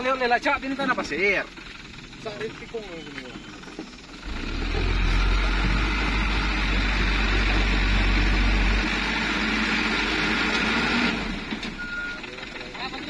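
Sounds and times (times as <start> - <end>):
truck diesel engine revving: 0.0 - 13.0.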